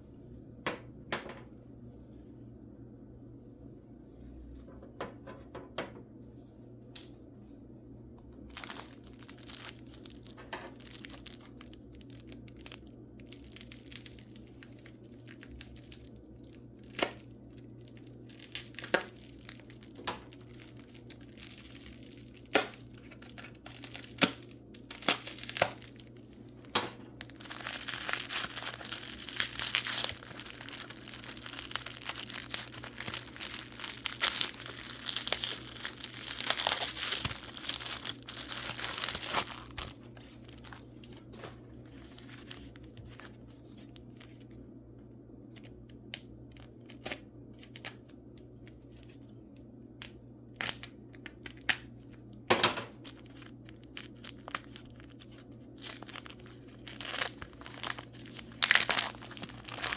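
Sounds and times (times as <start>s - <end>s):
wrapping paper crinkling: 8.4s - 44.6s, 45.5s - 52.3s, 52.9s - 59.9s.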